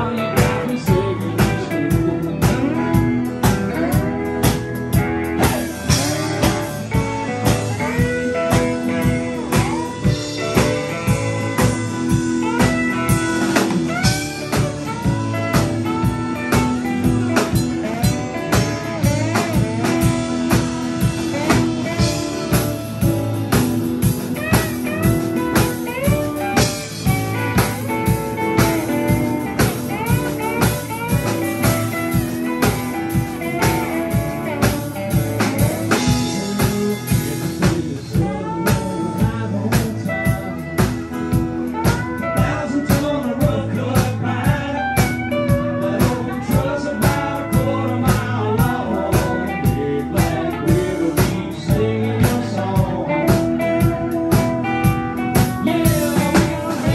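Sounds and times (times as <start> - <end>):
drum kit beat: 0.0 - 56.9
guitar bent notes: 0.0 - 56.9
live blues-rock band playing: 0.0 - 56.9.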